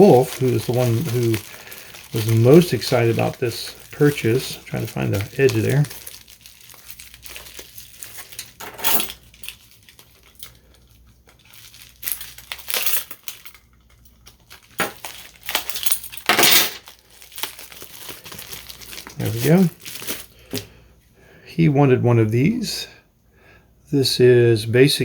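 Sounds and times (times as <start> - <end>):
plastic packaging crinkling: 0.0 - 20.8.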